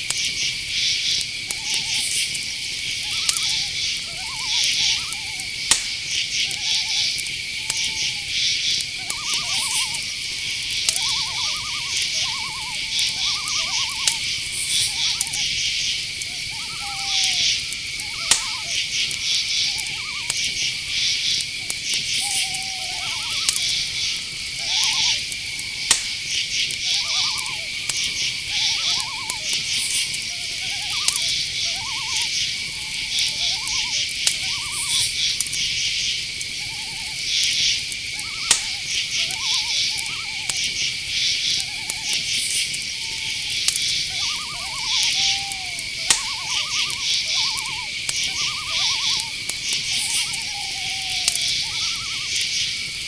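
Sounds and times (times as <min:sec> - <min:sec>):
crickets chirping: 0:00.0 - 0:53.0
high insect drone: 0:00.0 - 0:53.0
owls hooting: 0:00.0 - 0:53.0
sharp clicks: 0:04.6 - 0:53.0.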